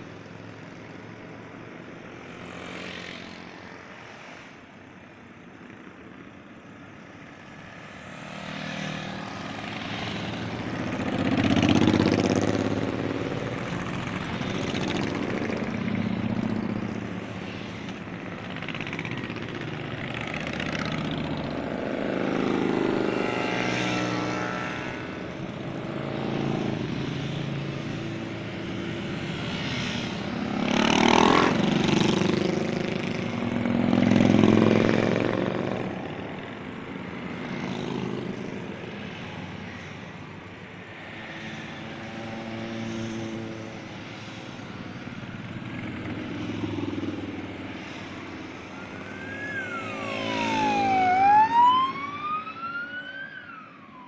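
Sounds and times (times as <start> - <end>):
motorcycles riding past: 0.0 - 54.0.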